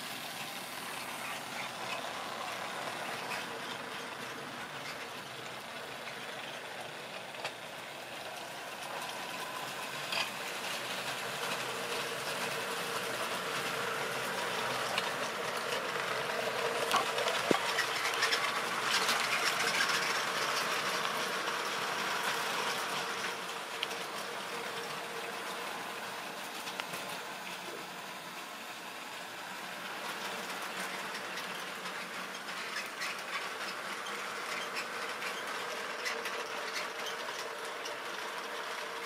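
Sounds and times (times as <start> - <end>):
model train motor hum: 0.0 - 39.0
wheel rumble on track: 0.0 - 39.0.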